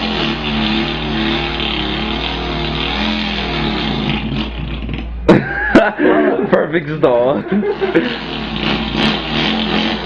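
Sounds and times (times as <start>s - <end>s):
man imitating engine with mouth: 0.0s - 6.4s, 7.5s - 10.0s.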